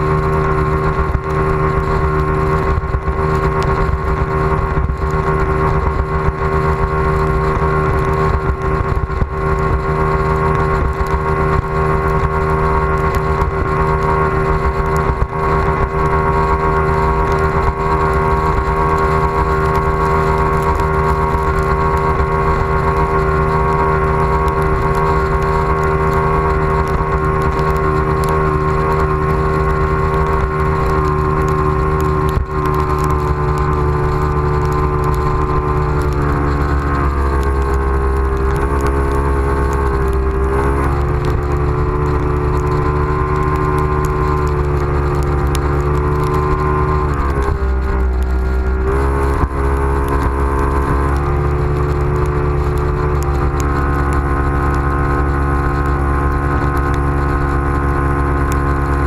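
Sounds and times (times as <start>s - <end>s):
outboard motor running: 0.0s - 59.0s
wind on microphone: 0.0s - 59.0s.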